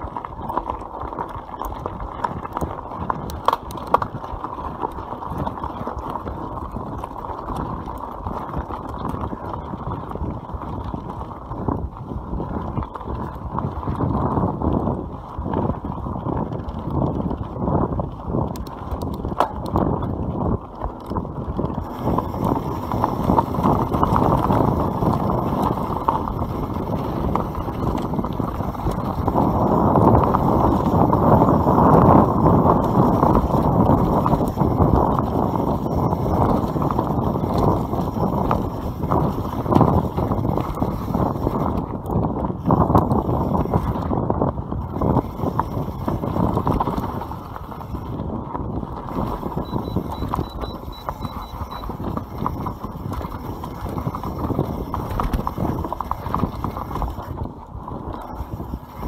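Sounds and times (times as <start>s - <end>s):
bike rattling and clicking: 0.0s - 59.0s
tyres crunching over loose stones: 0.0s - 59.0s
wind noise on microphone: 0.0s - 59.0s.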